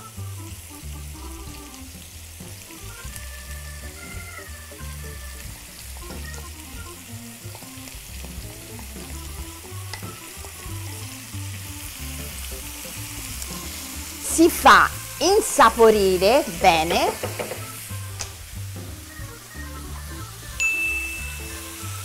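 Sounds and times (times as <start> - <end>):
background music with bass line: 0.0 - 22.0
meat sizzling in a frying pan: 0.0 - 22.0.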